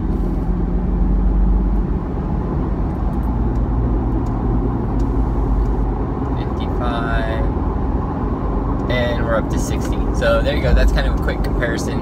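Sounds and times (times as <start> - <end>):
car engine running: 0.0 - 12.0
tyre drone and road rumble: 0.0 - 12.0.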